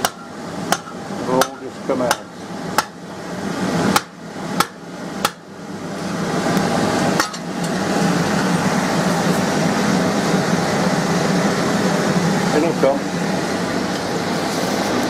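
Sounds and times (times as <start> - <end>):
forge air blower rushing: 0.0 - 15.0.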